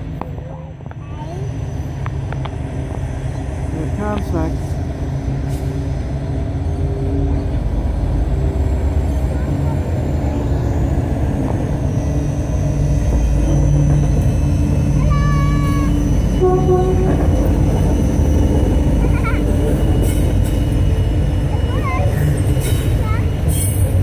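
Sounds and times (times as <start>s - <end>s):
locomotive engine rumble: 0.0s - 24.0s.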